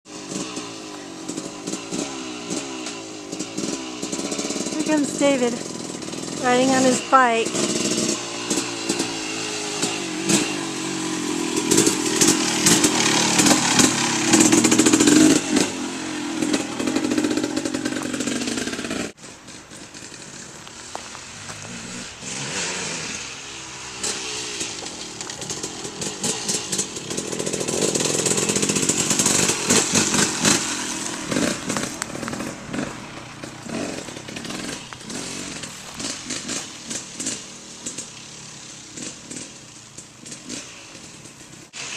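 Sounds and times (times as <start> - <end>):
dirt bike engine revving: 0.1 - 41.9.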